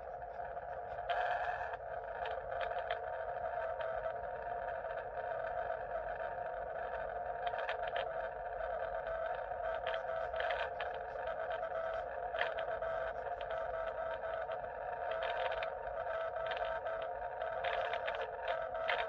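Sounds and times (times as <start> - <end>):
radio band noise hiss: 0.0 - 19.0
static crackles: 0.0 - 19.0.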